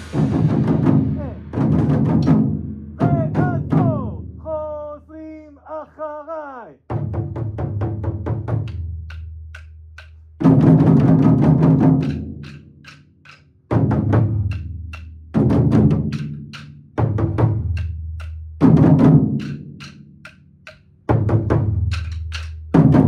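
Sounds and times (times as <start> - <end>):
taiko drums booming: 0.0 - 4.4, 6.9 - 9.4, 10.4 - 20.4, 21.1 - 23.0.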